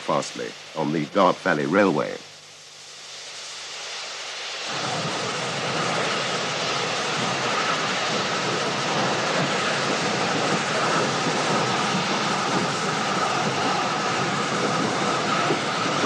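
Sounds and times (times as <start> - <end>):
steam hissing: 0.0 - 16.0.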